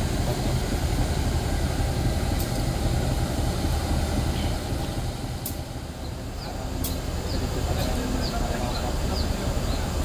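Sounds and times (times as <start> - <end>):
diesel train engine rumbling: 0.0 - 10.0.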